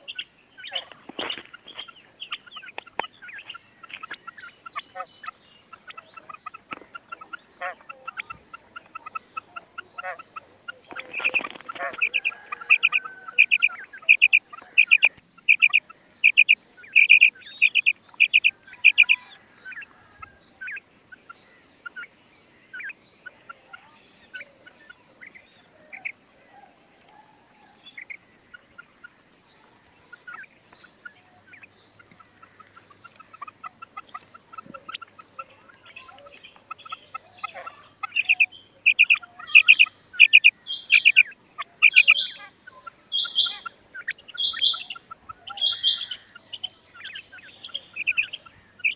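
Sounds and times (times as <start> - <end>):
quail calling: 0.0 - 48.9.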